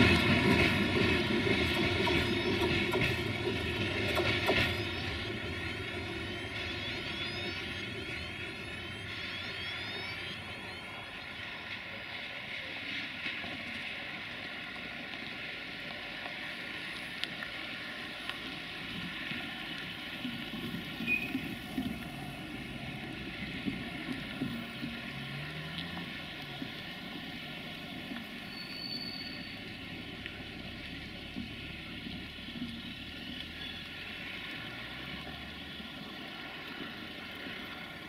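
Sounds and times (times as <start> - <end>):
freight wagon wheels rumbling: 0.0 - 15.0, 15.9 - 38.0.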